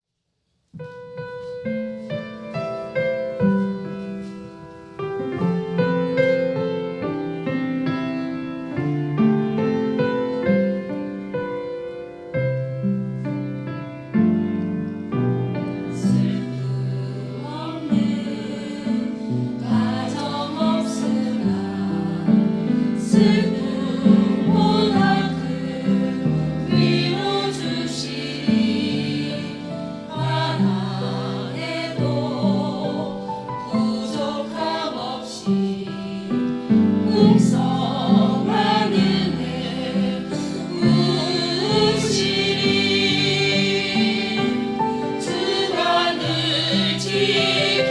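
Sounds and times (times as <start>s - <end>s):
vocal ensemble singing a hymn: 1.5s - 11.9s, 14.4s - 47.9s.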